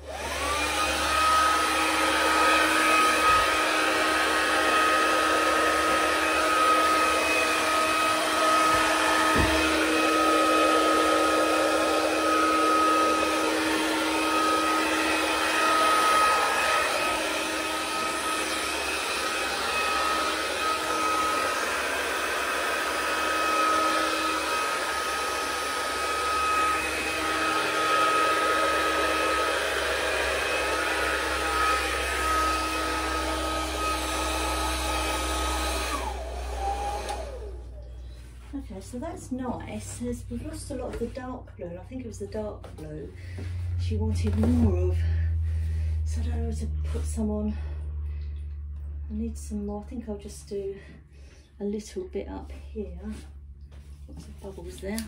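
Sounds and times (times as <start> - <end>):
hair dryer running: 0.0 - 49.0, 53.1 - 55.0.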